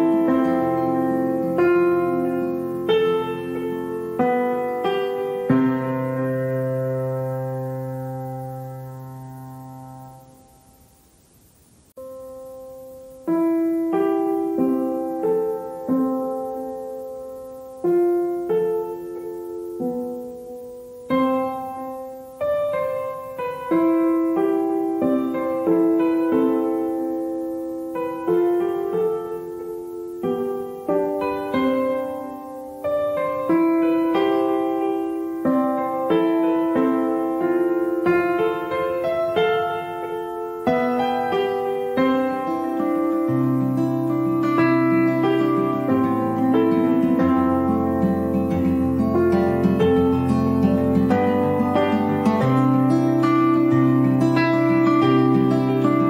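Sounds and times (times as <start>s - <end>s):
gentle piano music: 0.0s - 11.0s, 11.9s - 56.0s.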